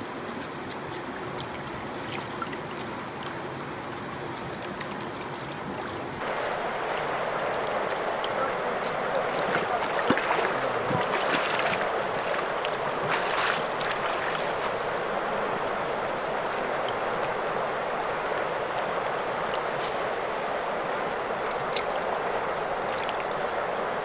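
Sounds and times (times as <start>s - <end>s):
small splashes: 0.0s - 23.7s
rushing stream water: 0.0s - 24.0s.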